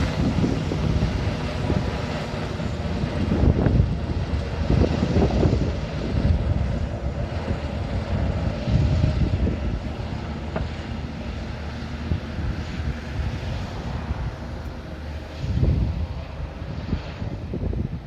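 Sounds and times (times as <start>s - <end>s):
helicopter rotor and engine rumble: 0.0s - 18.0s
wind buffeting microphone: 0.0s - 18.0s.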